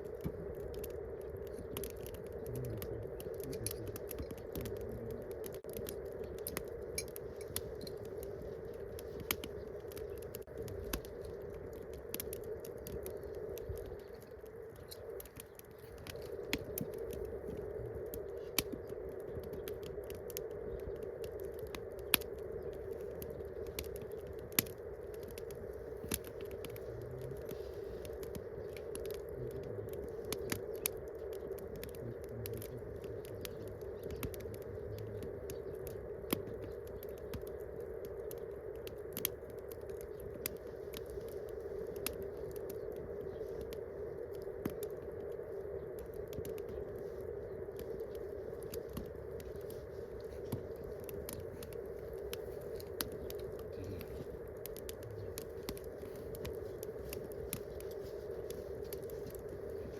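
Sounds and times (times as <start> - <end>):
campfire crackling: 0.0 - 59.9
steady background hum: 0.0 - 59.9.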